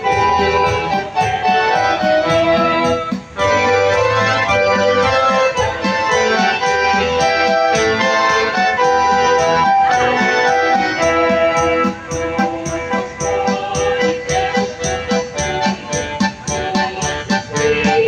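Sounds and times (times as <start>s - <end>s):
electronic keyboard chords and melody: 0.0s - 18.0s.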